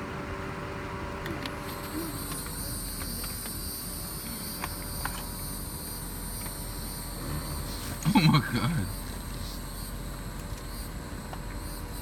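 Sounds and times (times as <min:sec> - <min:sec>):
high-pitched insect chirring: 0:01.8 - 0:11.0, 0:11.6 - 0:12.0.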